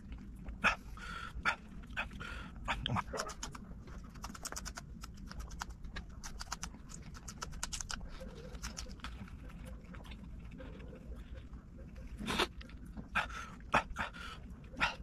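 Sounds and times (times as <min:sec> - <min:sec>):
crunching chili peppers: 0:00.0 - 0:15.0.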